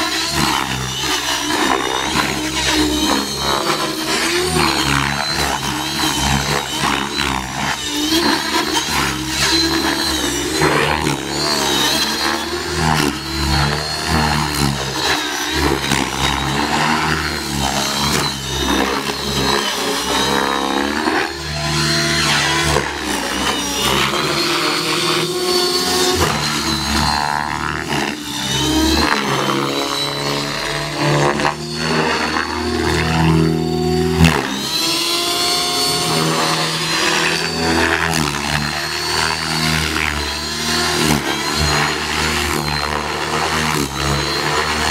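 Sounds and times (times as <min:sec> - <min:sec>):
rc helicopter motor whine: 0:00.0 - 0:44.9.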